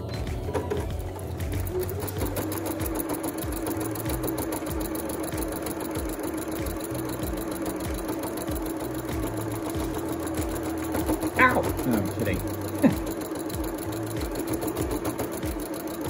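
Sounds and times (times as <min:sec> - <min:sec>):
sewing machine running: 0:00.0 - 0:16.0.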